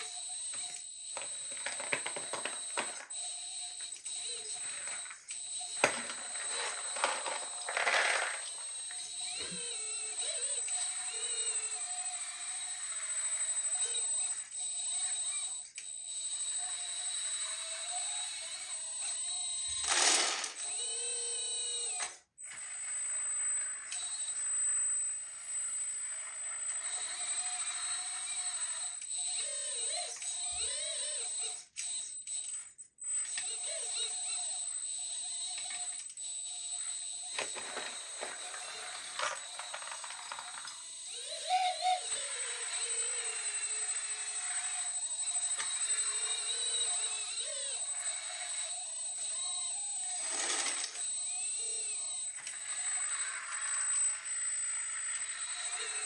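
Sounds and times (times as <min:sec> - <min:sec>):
small electric motors whining: 0:00.0 - 0:56.0.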